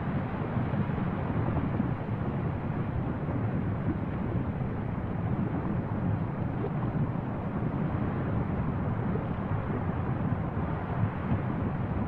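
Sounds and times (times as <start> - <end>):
low rumble of erupting volcano: 0.0 - 12.0.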